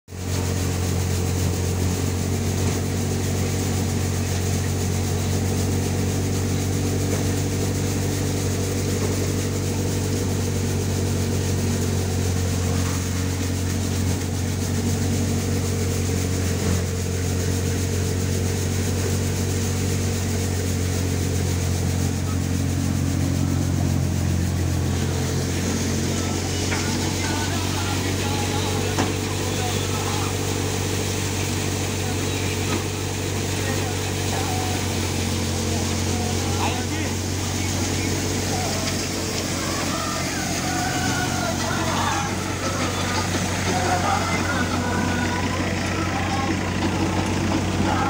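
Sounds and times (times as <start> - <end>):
thresher humming: 0.1 - 48.0.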